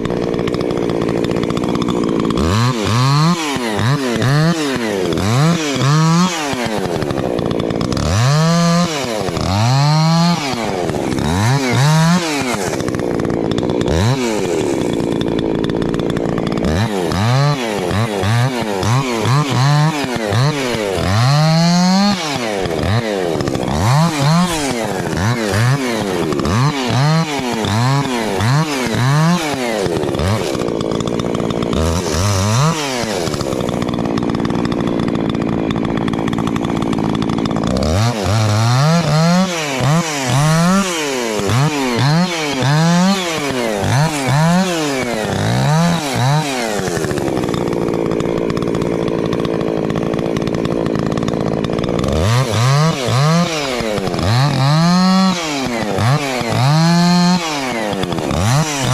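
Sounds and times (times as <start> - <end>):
chainsaw revving and cutting: 0.0 - 58.9.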